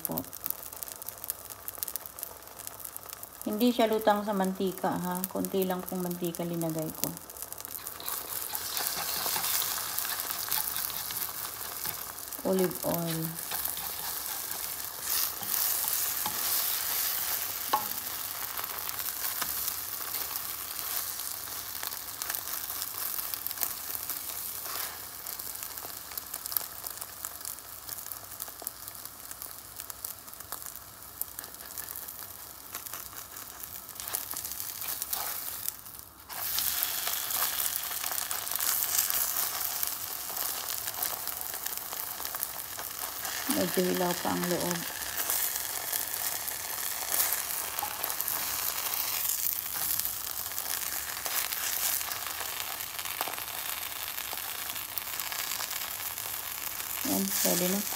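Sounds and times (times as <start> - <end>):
eggs sizzling in frying pan: 0.0 - 57.9.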